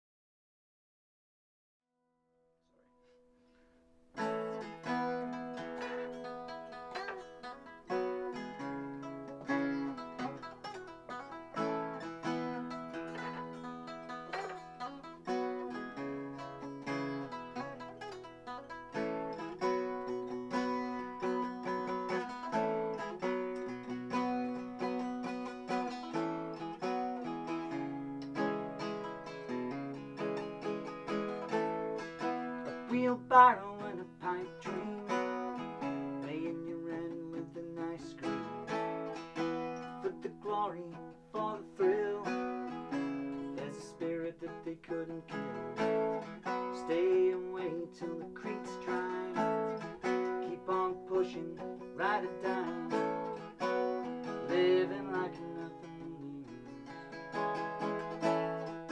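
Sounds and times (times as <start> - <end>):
acoustic guitar picking: 4.0 - 58.9.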